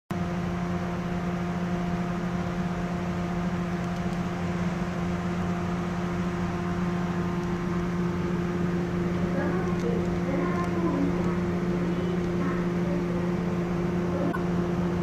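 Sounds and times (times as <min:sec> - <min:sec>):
railcar diesel engines humming: 0:00.1 - 0:15.0.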